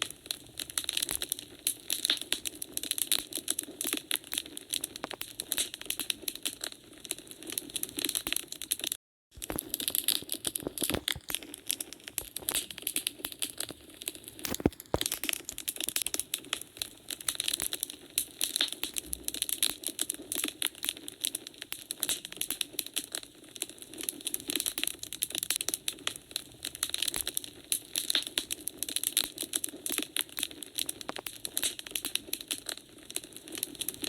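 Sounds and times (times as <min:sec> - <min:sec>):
fire popping: 0:00.0 - 0:34.0
wood fire crackling: 0:00.0 - 0:34.0.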